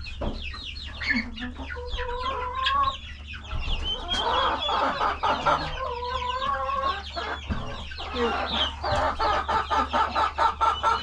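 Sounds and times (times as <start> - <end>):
chickens clucking: 0.0 - 11.0
chicks peeping: 0.0 - 11.0
low steady hum: 0.0 - 11.0.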